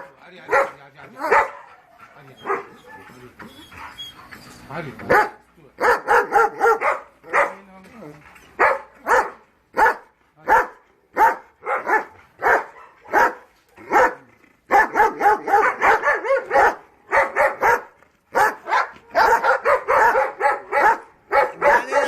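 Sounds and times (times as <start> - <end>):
dog barking: 0.0 - 3.1, 5.1 - 7.6, 8.6 - 22.0.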